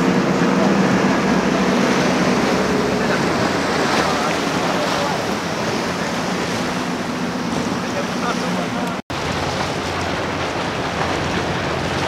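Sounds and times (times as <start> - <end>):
outboard engines droning: 0.0 - 12.0
rush of wake and water: 0.0 - 12.0.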